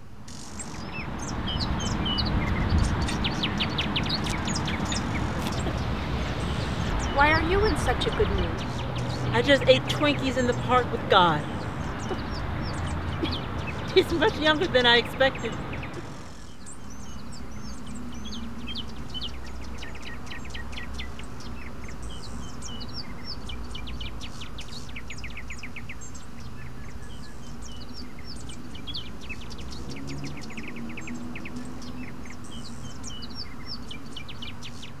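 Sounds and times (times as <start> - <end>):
low outdoor background: 0.0 - 35.0
small birds chirping: 0.0 - 35.0.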